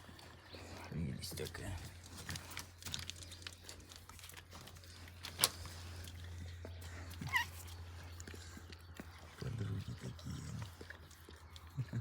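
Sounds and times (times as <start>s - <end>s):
animal licking and rustling: 0.0s - 12.0s.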